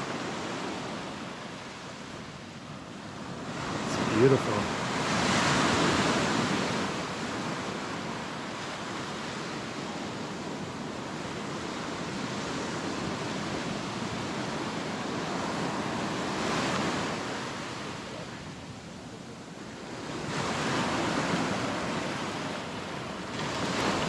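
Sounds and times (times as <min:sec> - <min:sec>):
ocean surf washing on beach: 0:00.0 - 0:24.0.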